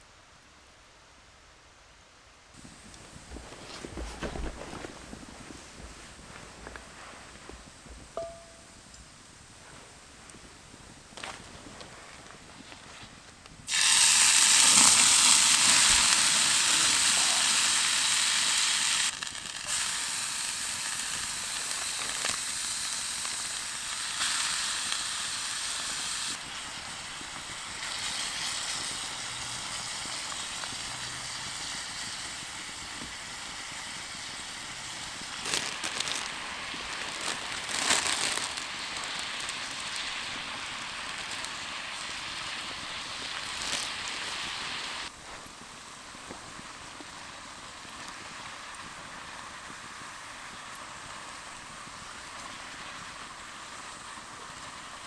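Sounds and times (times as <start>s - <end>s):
crackles: 2.6s - 55.0s
steam hissing: 2.6s - 55.0s.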